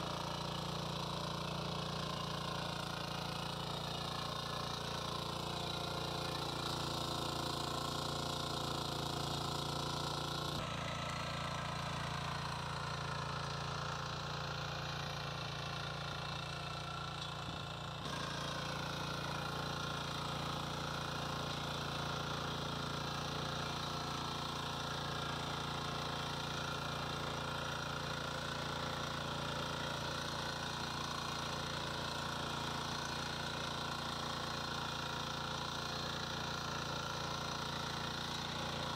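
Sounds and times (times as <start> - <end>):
power weeder engine running: 0.0 - 38.9.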